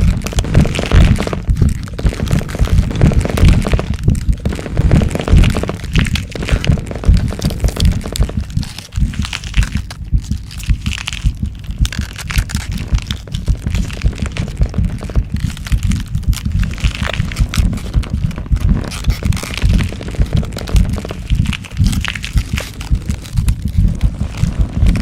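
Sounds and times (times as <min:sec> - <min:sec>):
cracking and crunching: 0:00.0 - 0:25.0
deep pulsing low rumble: 0:00.0 - 0:25.0.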